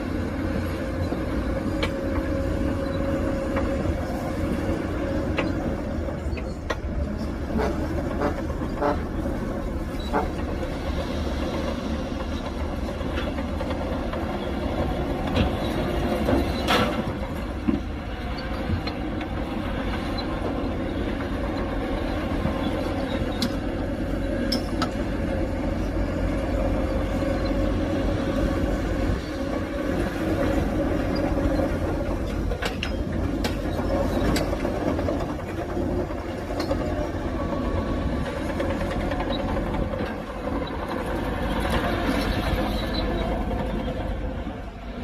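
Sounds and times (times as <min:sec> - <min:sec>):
diesel earthmoving machinery drone: 0:00.0 - 0:45.0.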